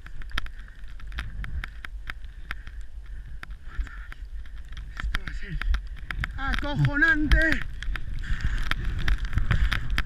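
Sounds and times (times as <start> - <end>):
rumble of wind and snow: 0.0 - 10.0
sharp irregular clicks and knocks: 0.0 - 10.0.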